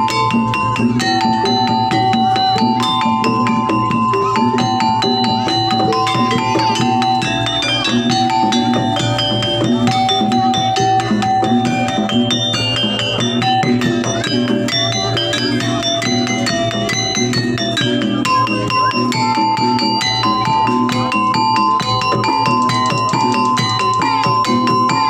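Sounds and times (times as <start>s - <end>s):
drums and metal percussion: 0.0s - 25.0s
melody of long held notes: 0.0s - 25.0s.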